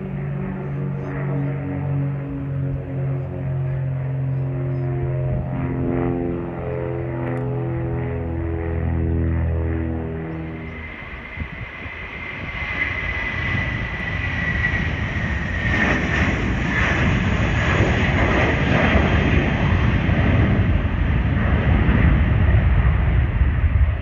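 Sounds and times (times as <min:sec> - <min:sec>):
jet engine roar: 0:00.0 - 0:24.0
jet engine whine: 0:00.0 - 0:24.0.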